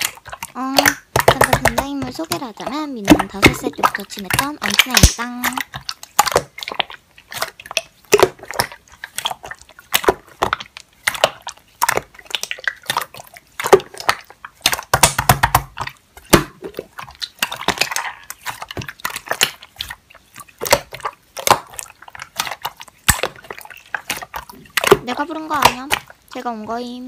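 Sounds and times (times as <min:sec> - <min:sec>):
airy squish: 0:00.0 - 0:27.0.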